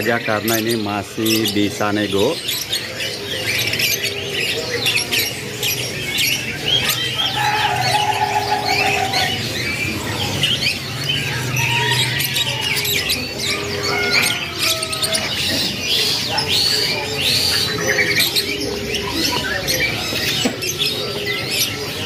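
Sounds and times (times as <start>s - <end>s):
canaries chirping and twittering: 0.0s - 22.0s.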